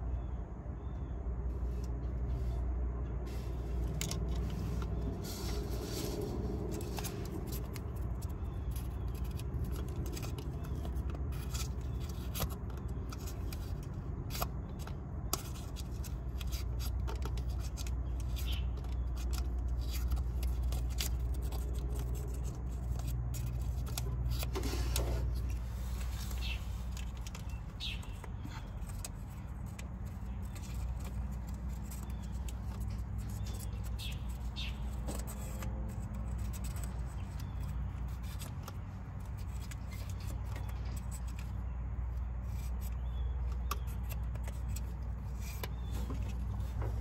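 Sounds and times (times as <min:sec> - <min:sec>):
small metal clicks and scrapes: 0:03.3 - 0:47.0.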